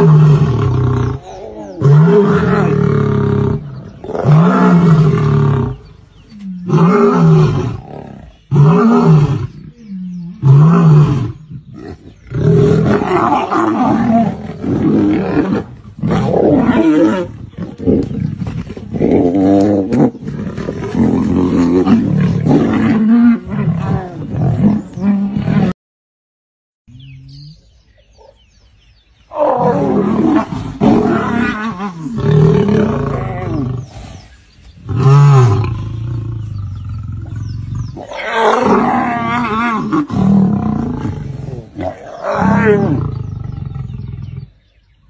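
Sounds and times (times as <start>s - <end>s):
big cat roaring: 0.0s - 25.8s, 29.3s - 44.6s.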